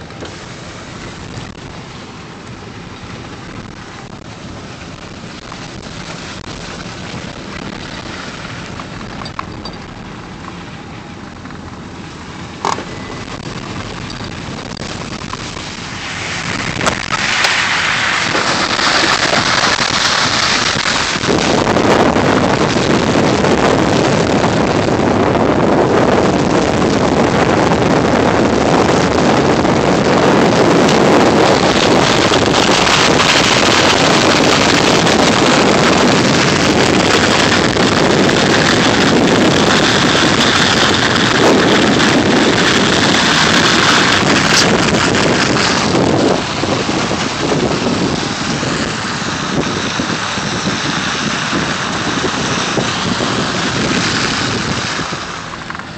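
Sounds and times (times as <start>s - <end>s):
vehicle engine and tyres rumbling: 0.0s - 55.9s
wind rushing at open window: 0.0s - 55.9s.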